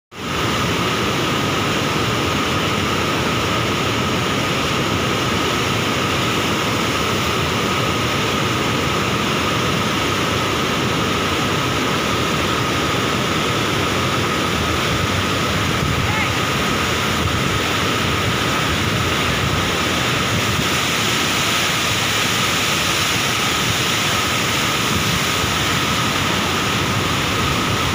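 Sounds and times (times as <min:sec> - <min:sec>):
floodwater roaring through spillway: 0:00.1 - 0:27.9.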